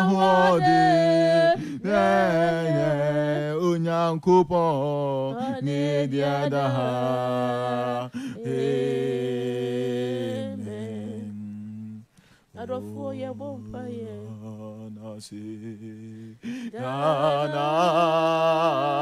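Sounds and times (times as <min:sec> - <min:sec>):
man and woman singing: 0:00.0 - 0:19.0.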